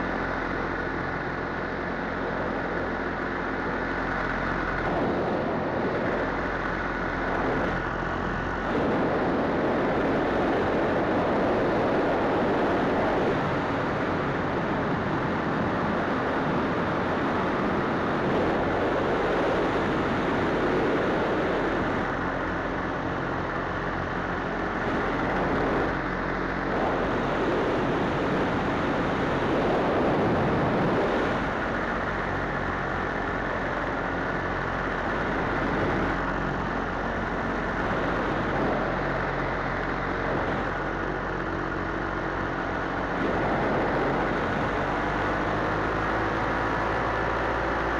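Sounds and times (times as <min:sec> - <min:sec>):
paramotor engine and propeller: 0:00.0 - 0:47.9.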